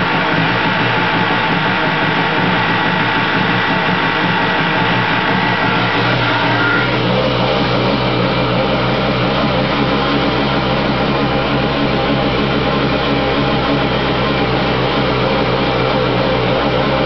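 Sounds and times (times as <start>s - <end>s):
engine pinging: 0.0s - 17.0s
jet ski engine running: 0.0s - 17.0s
low engine rumble: 0.0s - 17.0s.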